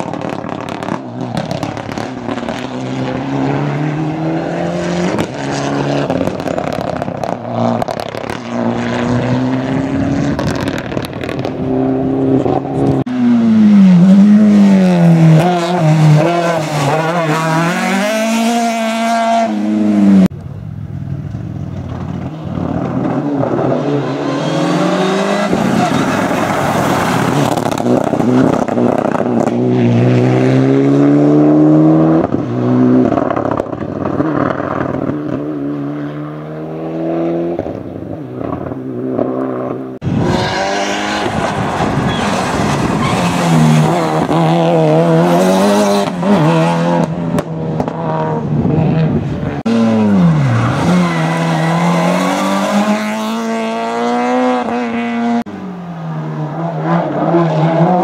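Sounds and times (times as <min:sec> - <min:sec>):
engine revving: 0:00.0 - 0:20.3, 0:22.7 - 0:33.6, 0:38.6 - 0:55.5.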